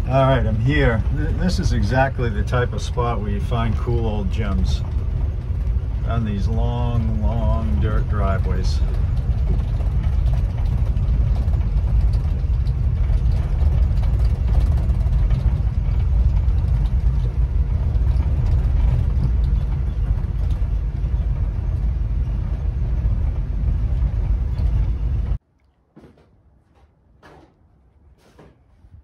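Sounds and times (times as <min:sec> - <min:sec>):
car engine and road rumble: 0:00.0 - 0:25.4.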